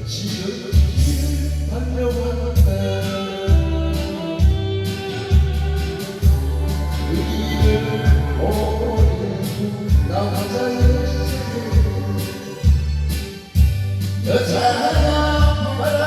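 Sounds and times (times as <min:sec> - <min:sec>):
instrumental song backing with beat: 0:00.0 - 0:16.0.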